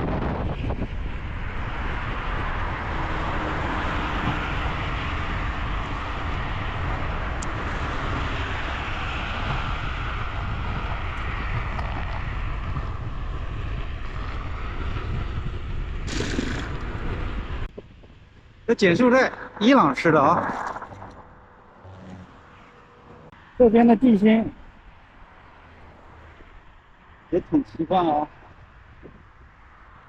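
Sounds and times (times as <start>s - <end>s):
wind buffeting microphone: 0.0s - 25.2s.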